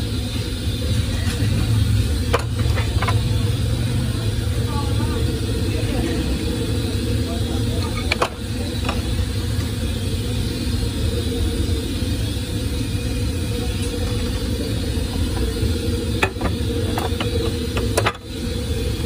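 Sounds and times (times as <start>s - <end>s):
street noise rumble: 0.0s - 19.0s.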